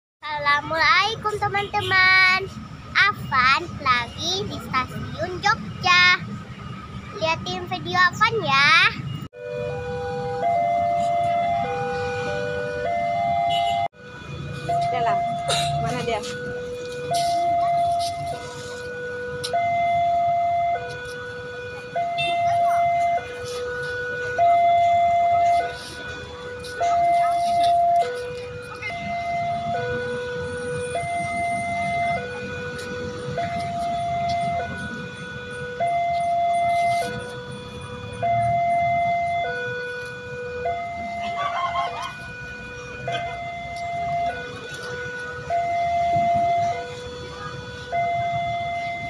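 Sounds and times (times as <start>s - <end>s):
two-tone level crossing alarm: 4.6s - 49.0s.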